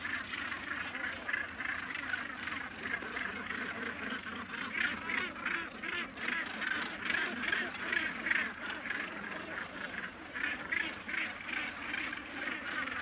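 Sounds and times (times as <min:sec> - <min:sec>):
seabird colony calling: 0:00.0 - 0:13.0.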